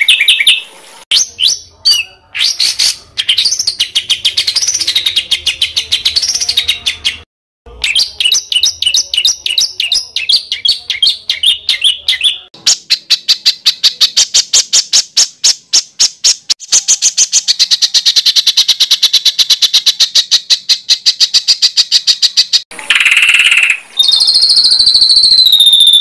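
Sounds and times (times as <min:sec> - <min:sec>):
songbird chirps and trills: 0:00.0 - 0:26.0.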